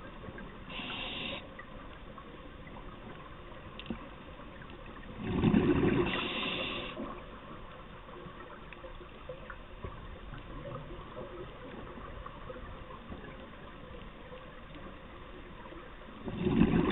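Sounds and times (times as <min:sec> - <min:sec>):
scuba bubbles underwater: 0:00.0 - 0:16.9
small underwater clicks: 0:00.0 - 0:16.9.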